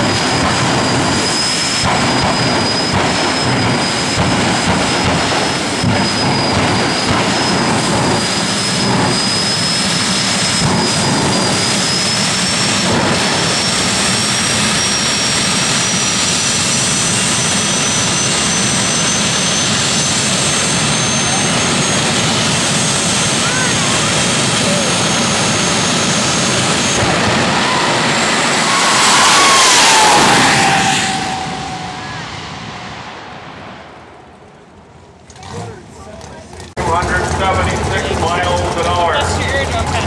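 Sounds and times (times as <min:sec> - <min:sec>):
jet turbine engine whine: 0:00.0 - 0:35.2, 0:36.6 - 0:40.0.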